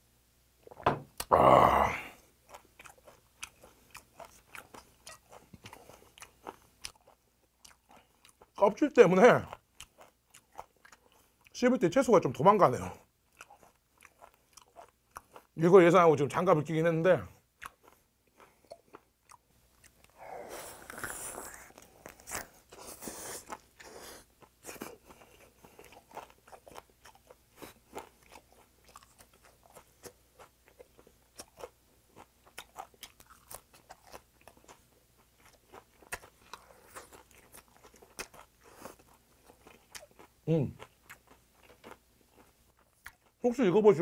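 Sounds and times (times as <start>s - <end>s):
person chewing crunchy food: 0.6s - 11.6s, 12.8s - 15.6s, 17.3s - 43.4s.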